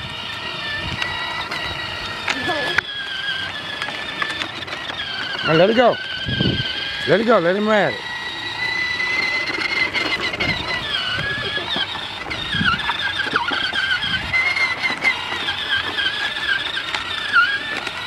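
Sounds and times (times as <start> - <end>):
toy electric motor whining: 0.0 - 18.0.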